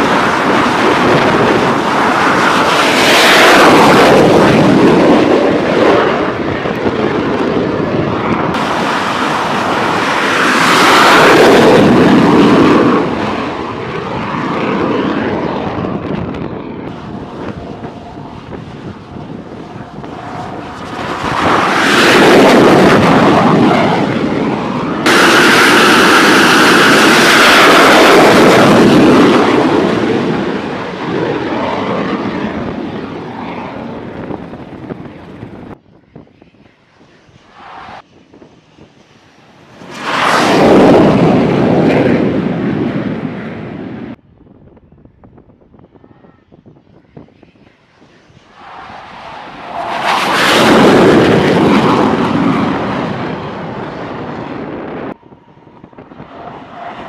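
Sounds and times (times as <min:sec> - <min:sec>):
jet engine running at high power: 0:00.0 - 0:44.2, 0:45.2 - 0:57.0
steady high whine: 0:00.0 - 0:57.0.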